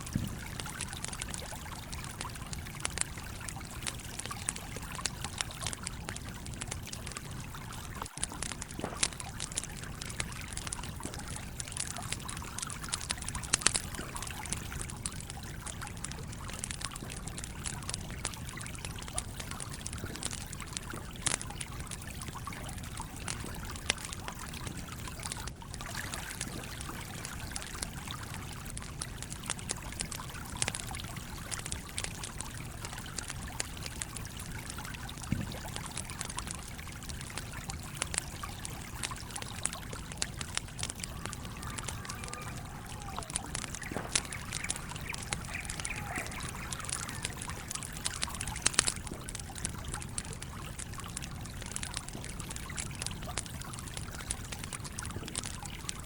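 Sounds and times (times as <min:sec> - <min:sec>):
campfire crackling: 0:00.0 - 0:56.0
stream trickling: 0:00.0 - 0:56.0.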